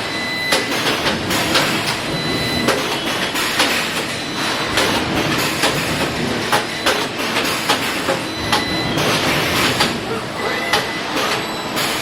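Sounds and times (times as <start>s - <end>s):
steady machine noise: 0.0s - 12.0s.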